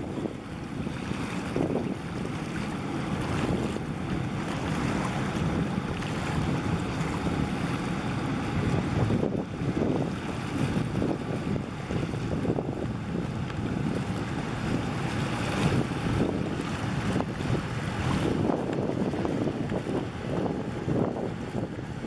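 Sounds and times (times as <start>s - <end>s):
low uneven rumble: 0.0s - 22.0s
water washing: 0.0s - 22.0s
wind buffeting microphone: 0.0s - 22.0s.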